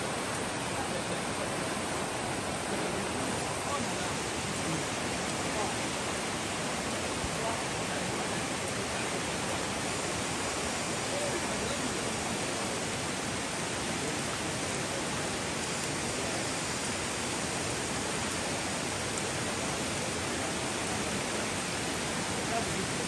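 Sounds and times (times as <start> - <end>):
fast-flowing river rushing: 0.0 - 23.0
rain falling on water: 0.0 - 23.0.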